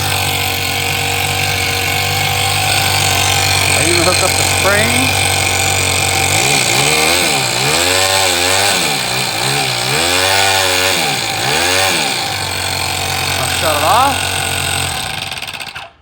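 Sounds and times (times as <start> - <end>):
model engine revving and idling: 0.0 - 16.0.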